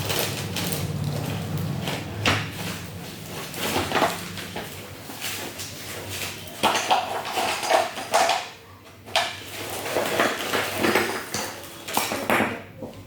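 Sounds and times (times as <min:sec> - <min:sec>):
puzzle pieces and packaging rustling: 0:00.0 - 0:12.2.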